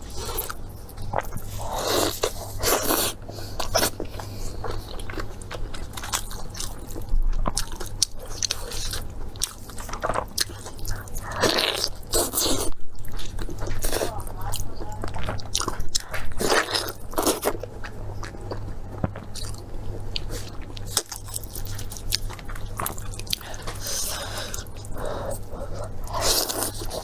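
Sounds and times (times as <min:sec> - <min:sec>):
crunchy chewing: 0:00.0 - 0:27.0.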